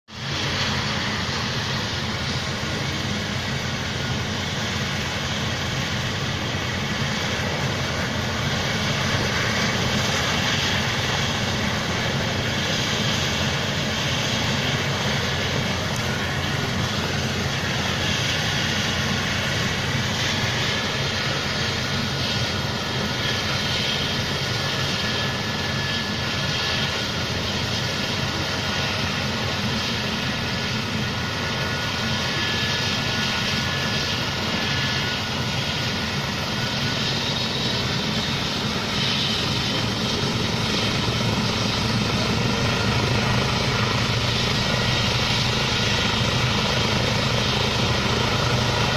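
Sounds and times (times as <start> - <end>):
helicopter engines and rotor: 0.0 - 48.9
high turbine whine: 0.1 - 48.9.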